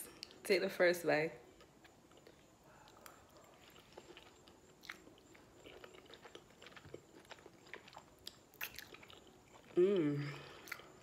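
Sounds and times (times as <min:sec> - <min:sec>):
faint chewing: 0:01.4 - 0:11.0.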